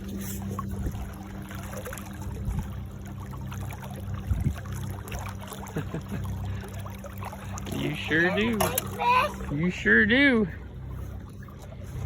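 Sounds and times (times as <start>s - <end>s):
steady low hum: 0.0s - 12.0s
water trickling and lapping: 0.0s - 12.0s.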